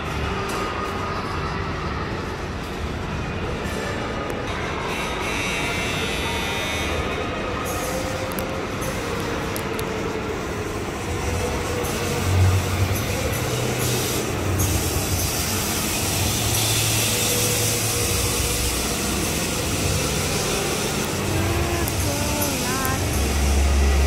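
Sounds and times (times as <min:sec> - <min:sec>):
amusement ride rumbling: 0:00.0 - 0:24.0.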